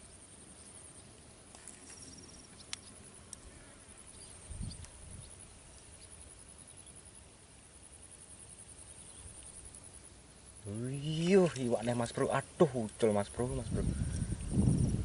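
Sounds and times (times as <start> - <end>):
high insect chirring: 0.0 - 15.0.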